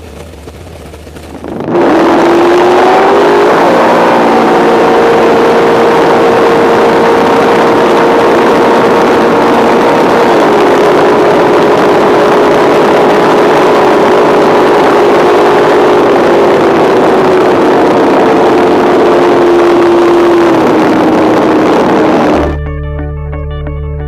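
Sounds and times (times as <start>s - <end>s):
boat engine roaring: 0.0s - 22.7s.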